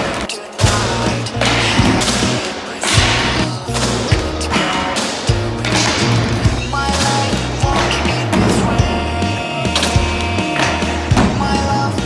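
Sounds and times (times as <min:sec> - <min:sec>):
music with heavy beat: 0:00.0 - 0:12.0.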